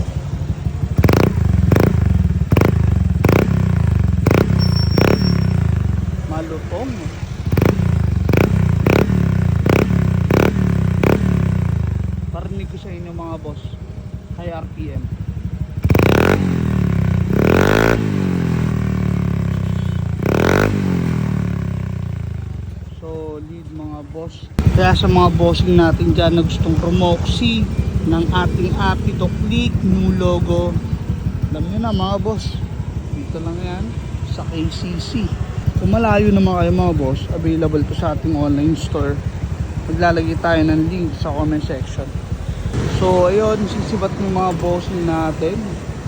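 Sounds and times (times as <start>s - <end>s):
scooter throttle revs: 0.0s - 22.9s, 24.6s - 46.0s
scooter idling: 0.0s - 46.0s.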